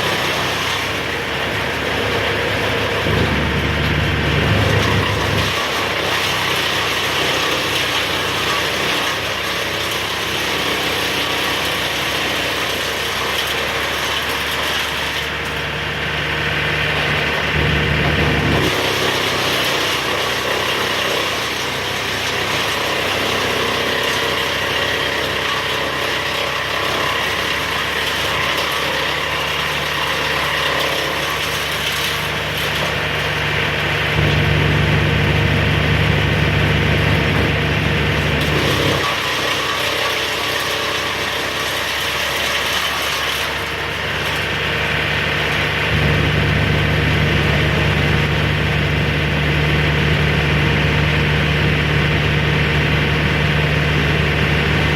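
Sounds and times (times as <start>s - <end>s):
engine-driven machine clattering: 0.0s - 15.8s, 16.4s - 54.9s.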